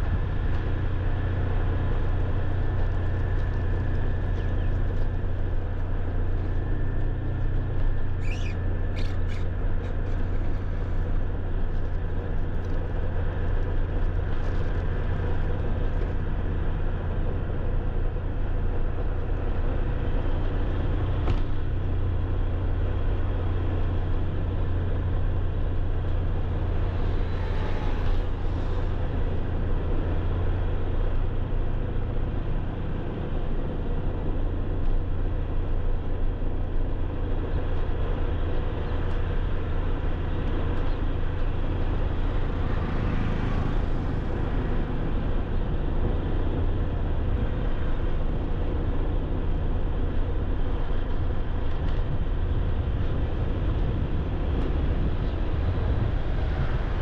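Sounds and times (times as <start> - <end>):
motor traffic rumble: 0.0 - 57.0.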